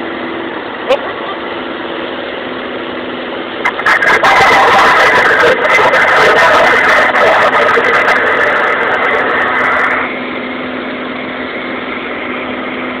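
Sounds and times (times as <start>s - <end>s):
light aircraft engine drone in cabin: 0.0s - 13.0s.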